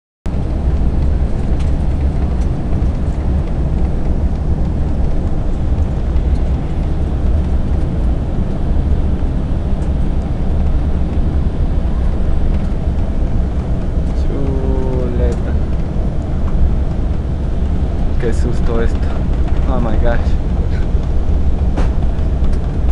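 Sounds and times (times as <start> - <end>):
jet engine drone: 0.3 - 22.9.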